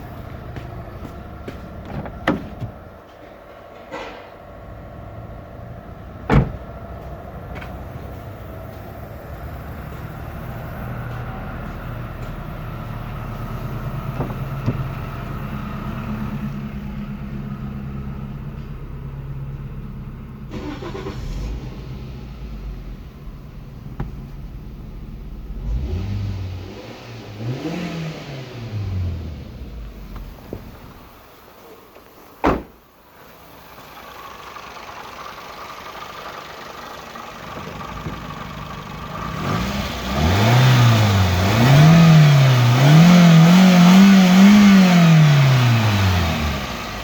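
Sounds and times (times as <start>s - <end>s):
car engine idling and revving: 0.0s - 47.0s.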